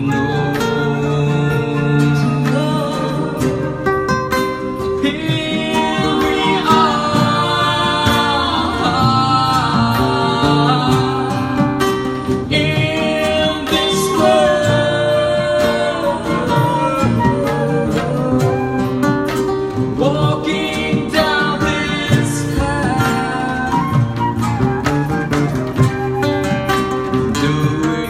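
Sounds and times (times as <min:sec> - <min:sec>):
person singing: 0:00.0 - 0:04.0, 0:05.0 - 0:25.6
acoustic guitar: 0:00.0 - 0:28.0.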